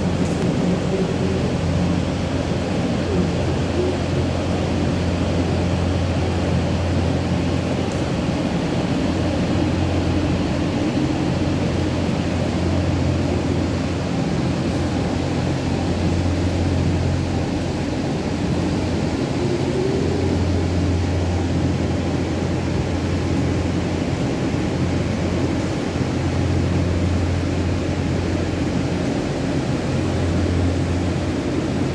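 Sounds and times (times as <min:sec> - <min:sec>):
low machine hum: 0:00.0 - 0:31.9.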